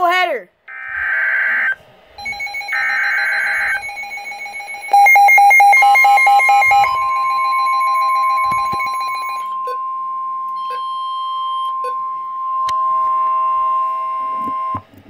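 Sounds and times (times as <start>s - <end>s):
fast-pulsing alarm beep: 0.7s - 14.8s
steady electronic alert tone: 0.8s - 14.8s.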